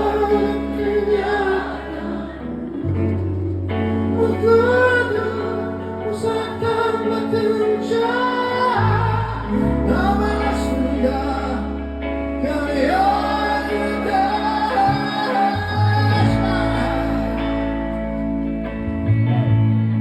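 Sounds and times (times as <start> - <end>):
person singing long bending notes: 0.0 - 18.0
sustained bass notes: 0.0 - 20.0.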